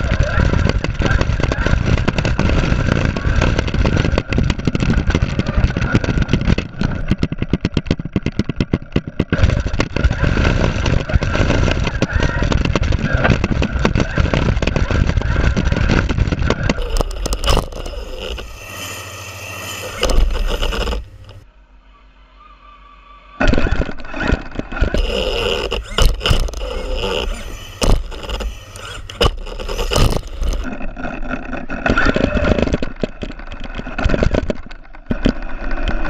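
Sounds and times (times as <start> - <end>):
rattling rumble of toy car: 0.0 - 21.4, 23.5 - 36.0.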